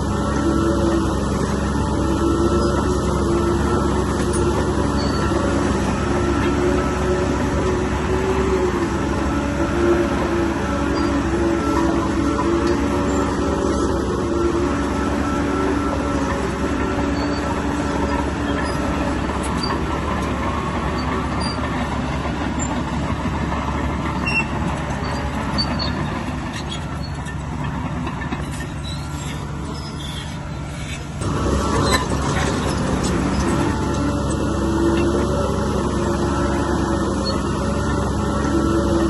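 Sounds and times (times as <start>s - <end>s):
bulldozer diesel engine: 0.0s - 39.0s
steel tracks squeaking: 0.0s - 39.0s.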